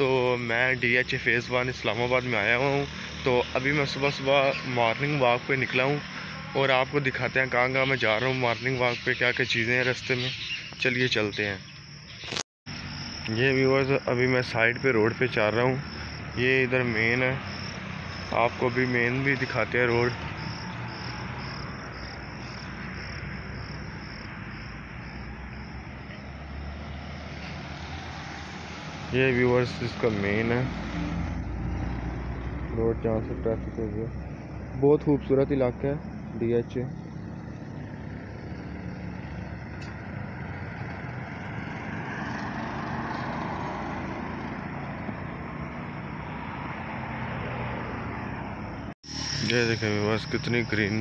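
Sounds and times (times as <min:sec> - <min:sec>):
crickets chirping: 0:00.0 - 0:51.0
road traffic passing: 0:00.0 - 0:51.0.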